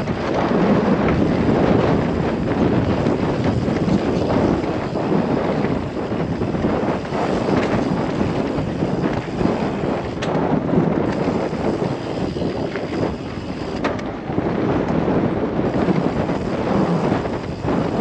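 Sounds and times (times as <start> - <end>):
bike tyres rumbling on dirt: 0.0 - 18.0
sharp bike clicks: 0.0 - 18.0
wind on microphone: 0.0 - 18.0.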